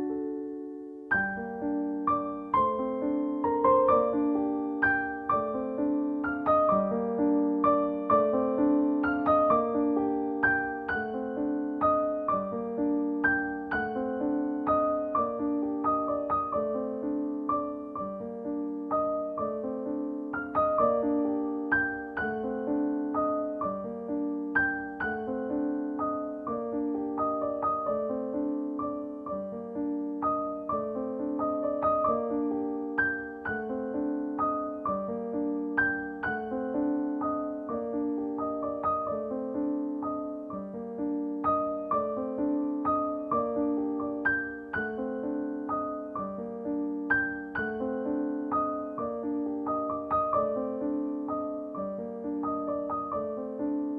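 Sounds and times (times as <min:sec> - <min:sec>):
slow solo piano: 0:00.0 - 0:53.9.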